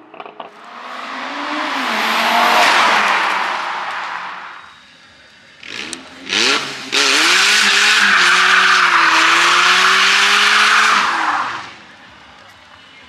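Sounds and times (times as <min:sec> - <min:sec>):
car engine revving: 0:00.0 - 0:04.8, 0:05.6 - 0:11.9.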